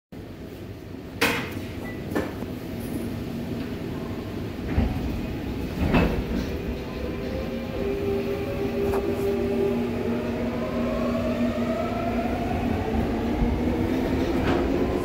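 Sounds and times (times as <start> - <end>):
train rumble and hum: 0.2 - 15.0.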